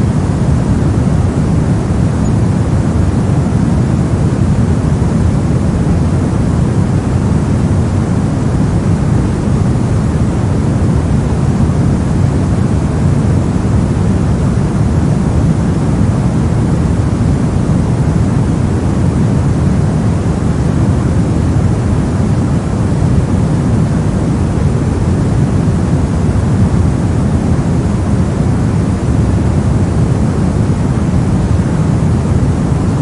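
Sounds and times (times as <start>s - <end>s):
brown noise rumbling hiss: 0.0s - 33.0s.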